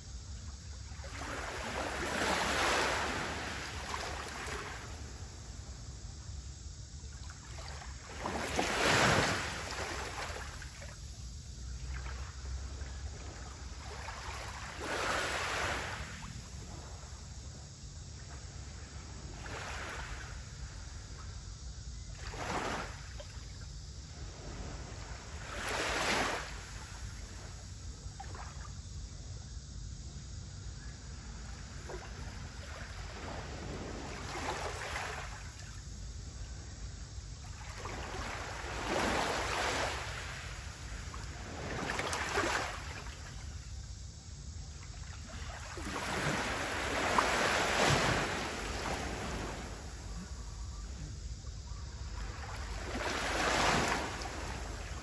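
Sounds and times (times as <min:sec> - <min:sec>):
small waves lapping on shore: 0:00.1 - 0:29.1, 0:31.1 - 0:55.0.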